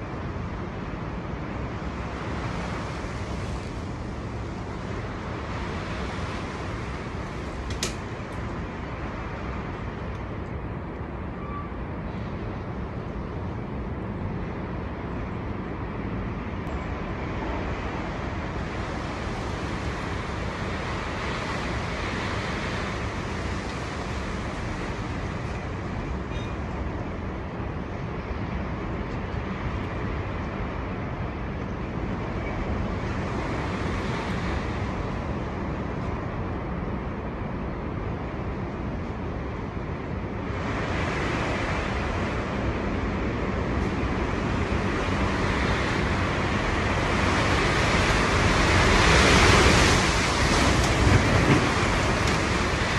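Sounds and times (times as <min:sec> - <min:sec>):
strong wind gusting: 0:00.0 - 0:52.9.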